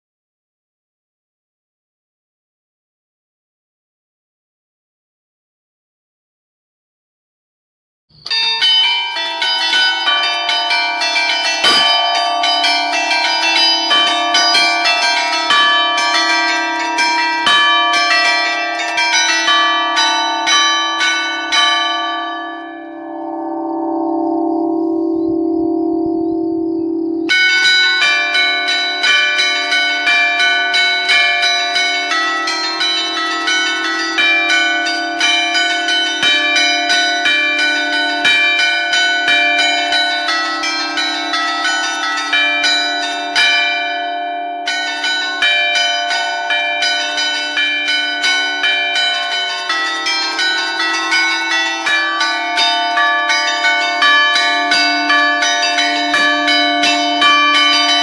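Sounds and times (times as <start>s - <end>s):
church bells ringing a festive tune: 8.2s - 58.0s.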